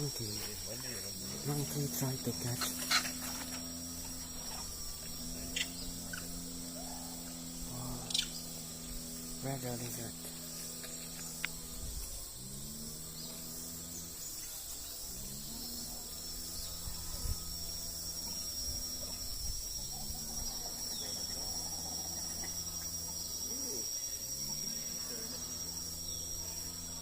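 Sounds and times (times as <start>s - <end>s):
insects trilling: 0.0s - 27.0s
low hum rising in pitch: 1.1s - 27.0s.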